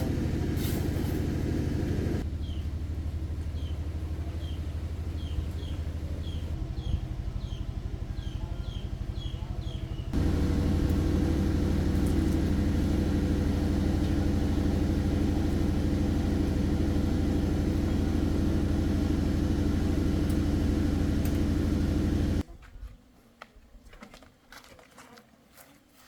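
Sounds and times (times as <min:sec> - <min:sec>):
engine rumbling: 0:00.0 - 0:22.4.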